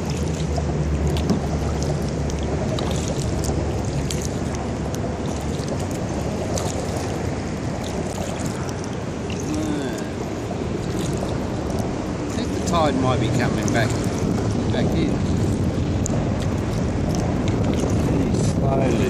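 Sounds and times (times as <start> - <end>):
paddle splashing in water: 0.0 - 19.0
water trickling off blades: 0.0 - 19.0.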